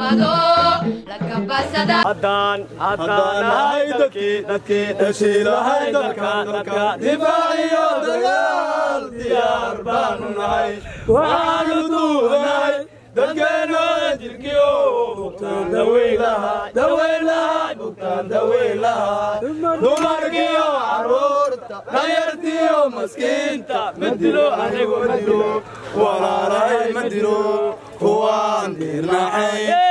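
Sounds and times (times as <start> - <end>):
men chanting in unison: 0.0 - 29.9.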